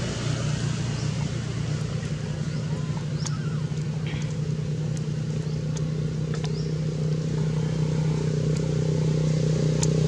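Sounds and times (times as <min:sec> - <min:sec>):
engine running drone: 0:00.0 - 0:10.0.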